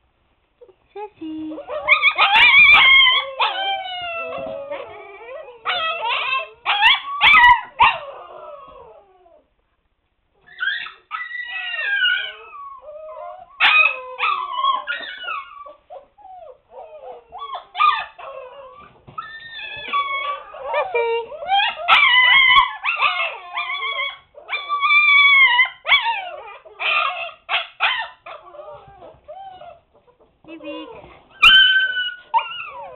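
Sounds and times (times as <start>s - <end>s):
puppies howling and whining: 1.6s - 9.5s, 10.4s - 32.9s.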